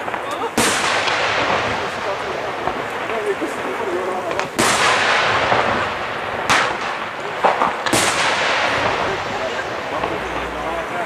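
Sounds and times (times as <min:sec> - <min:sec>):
echoing firework display noise: 0:00.0 - 0:11.0
firework shells bursting: 0:00.0 - 0:11.0.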